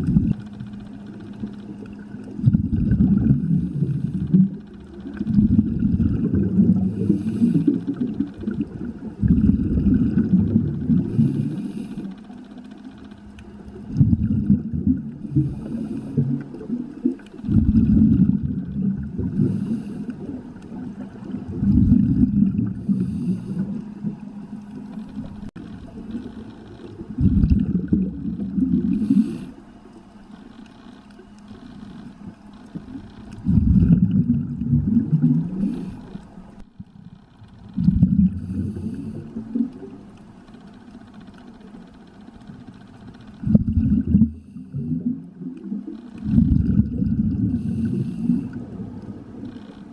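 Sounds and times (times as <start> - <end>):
underwater air bubbling: 0.0 - 49.9.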